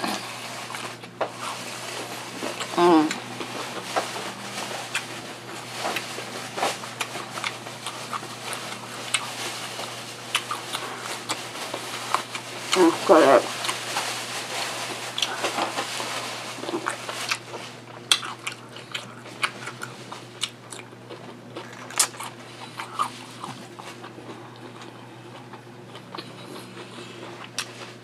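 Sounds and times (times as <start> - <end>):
crunchy food chewing: 0.0 - 28.0.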